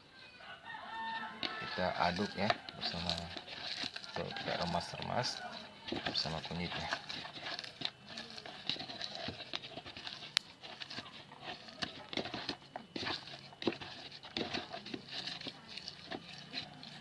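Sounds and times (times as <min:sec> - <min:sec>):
hands squeezing wet leaves: 0:00.6 - 0:17.0.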